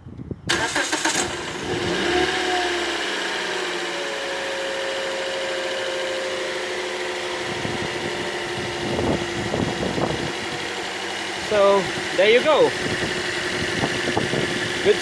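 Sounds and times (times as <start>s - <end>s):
car engine idling: 0.5s - 15.0s.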